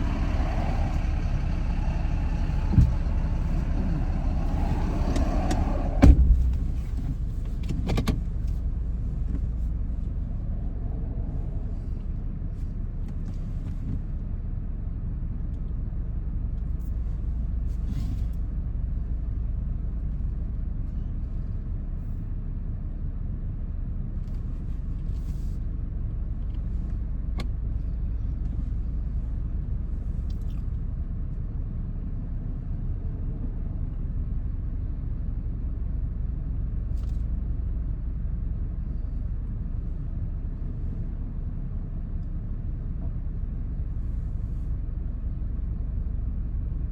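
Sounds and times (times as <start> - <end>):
road noise: 0.0 - 46.9
vehicle engine rumble: 0.0 - 46.9.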